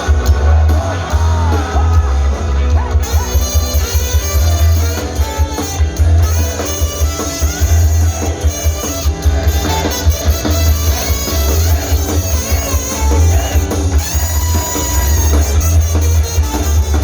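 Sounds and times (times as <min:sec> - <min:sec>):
pop-rock song: 0:00.0 - 0:17.0.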